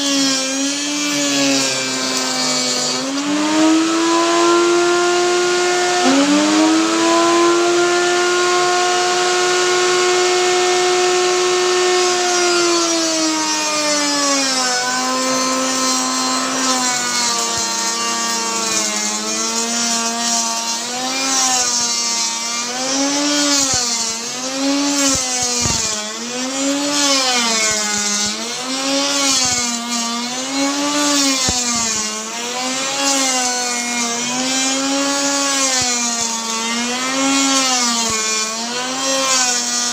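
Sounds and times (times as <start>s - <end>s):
hiss of router cutting wood: 0.0s - 39.9s
wood router motor: 0.0s - 39.9s.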